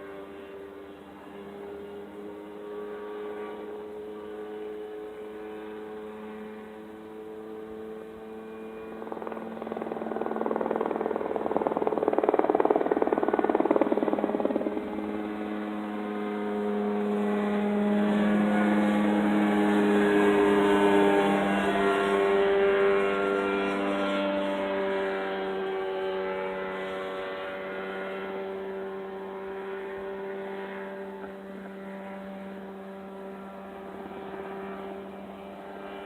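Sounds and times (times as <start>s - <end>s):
helicopter engine and rotor: 0.0s - 36.0s.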